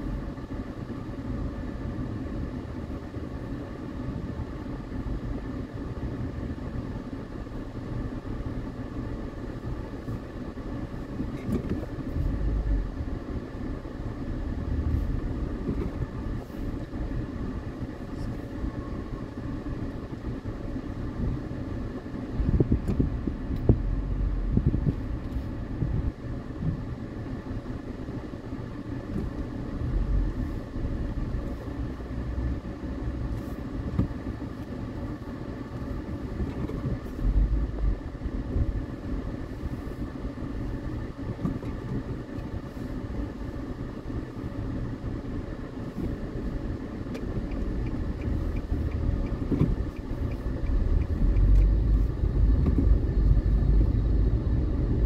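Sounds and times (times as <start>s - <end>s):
car engine and road rumble: 0.0s - 55.0s
faint steady whine: 0.0s - 55.0s.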